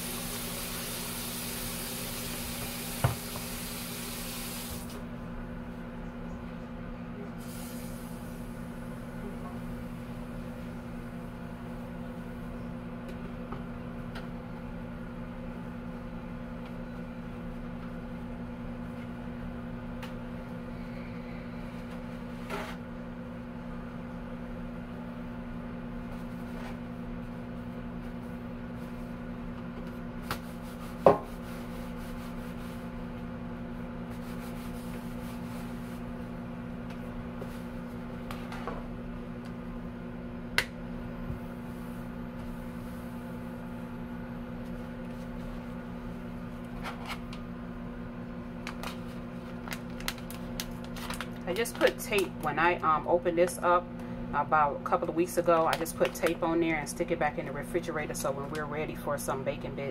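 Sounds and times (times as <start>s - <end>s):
microwave oven humming: 0.0s - 59.9s.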